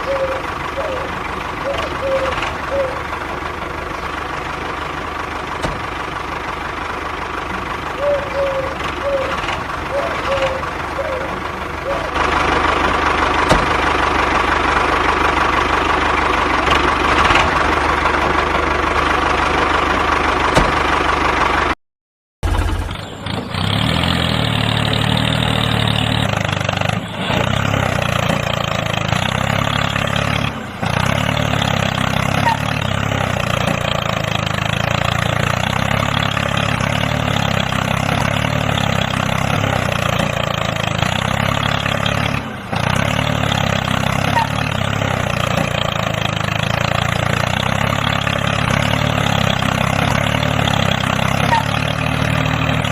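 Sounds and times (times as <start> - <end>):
small tractor motor running: 0.0 - 21.8, 22.4 - 52.9.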